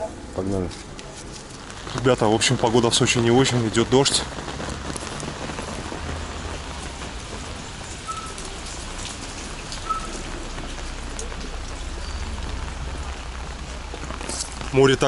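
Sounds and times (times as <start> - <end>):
rain drops ticking: 0.0 - 15.0
rain on an umbrella: 0.0 - 15.0.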